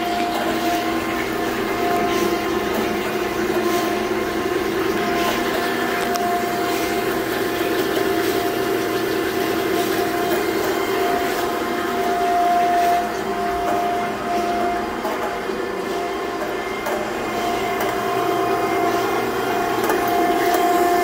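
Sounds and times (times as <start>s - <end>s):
grinder mechanical drone: 0.0s - 21.0s.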